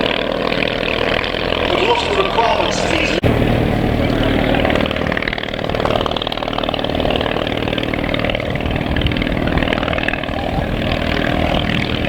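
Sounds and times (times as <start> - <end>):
small aircraft engine buzzing: 0.0 - 12.0.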